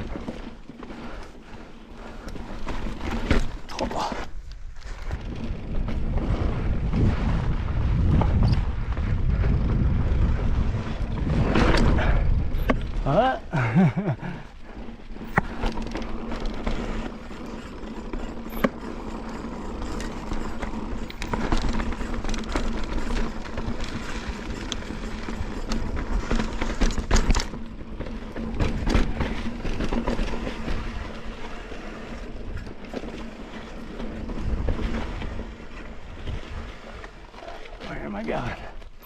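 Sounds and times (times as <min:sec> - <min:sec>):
bike rattling and knocking: 0:00.0 - 0:39.0
bike tyres rumbling on rock: 0:00.0 - 0:39.0.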